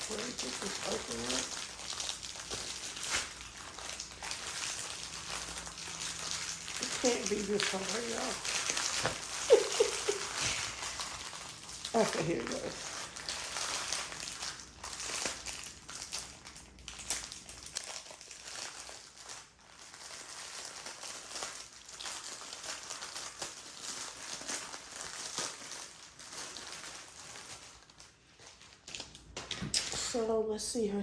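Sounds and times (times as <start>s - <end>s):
plastic packaging crinkling: 0.0s - 30.2s.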